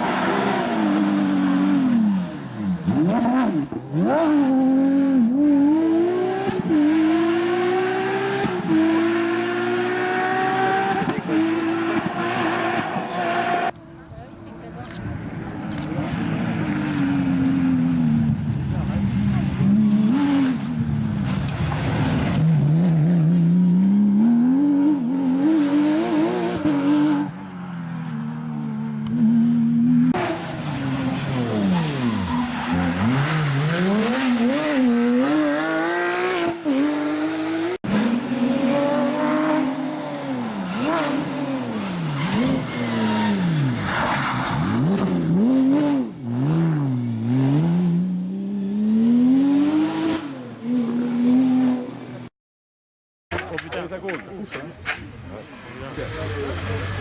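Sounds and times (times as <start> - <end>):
rally car engines revving: 0.0 - 13.8, 14.5 - 52.3, 53.3 - 57.0.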